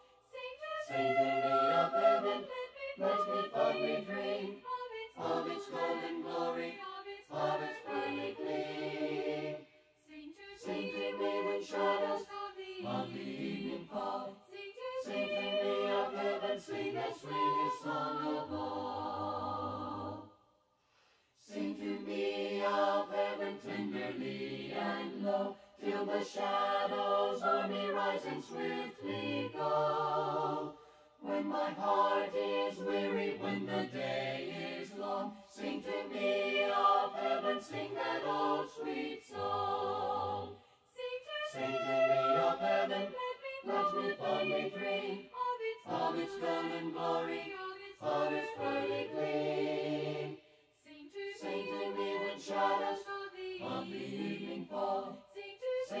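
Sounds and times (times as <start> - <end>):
choir singing a hymn: 0.0 - 20.4, 21.4 - 56.0.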